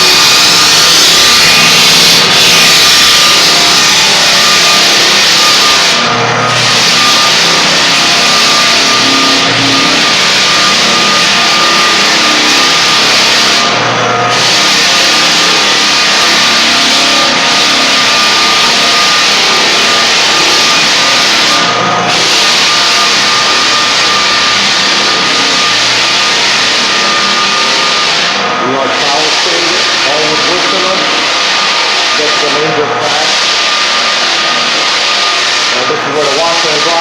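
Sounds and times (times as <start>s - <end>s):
floor sanding machine: 0.0s - 37.0s.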